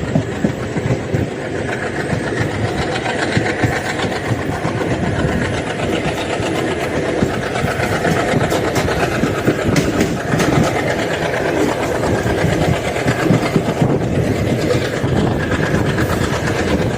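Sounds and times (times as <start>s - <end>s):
diesel locomotive engine chugging: 0.0s - 16.9s.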